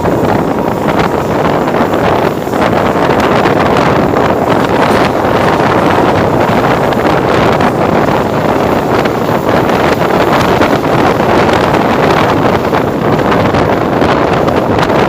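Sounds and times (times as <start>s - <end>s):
train rumbling on rails: 0.0s - 15.0s
wind buffeting microphone: 0.0s - 15.0s.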